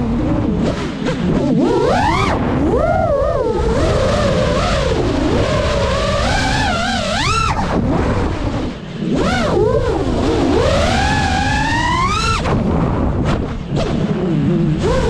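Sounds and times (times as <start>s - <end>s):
drone motors whining: 0.0s - 15.0s
wind rushing: 0.0s - 15.0s.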